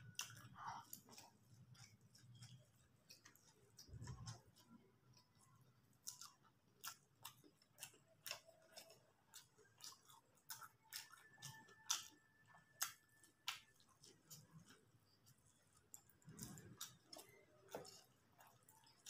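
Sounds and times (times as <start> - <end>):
person chewing noodles: 0.0 - 19.0.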